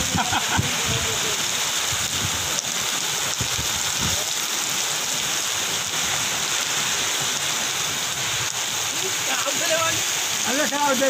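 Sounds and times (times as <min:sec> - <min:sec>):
wind gusts rumbling: 0:00.0 - 0:10.7
heavy rain pouring: 0:00.0 - 0:11.0.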